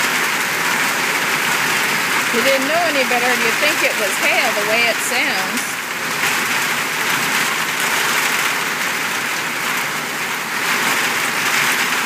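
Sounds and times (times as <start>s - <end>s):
heavy rain pelting ground: 0.0s - 12.0s.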